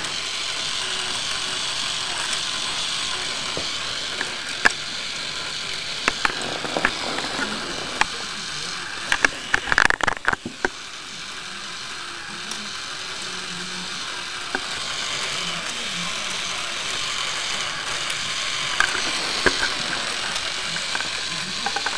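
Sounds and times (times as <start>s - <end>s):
toy engine gears whirring and clicking: 0.0s - 21.9s.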